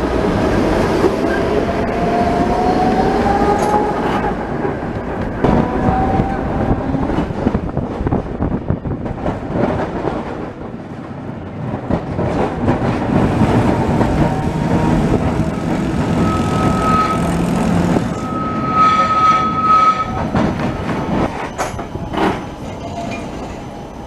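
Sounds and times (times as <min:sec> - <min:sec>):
tram wheels rumbling on rail: 0:00.0 - 0:24.0.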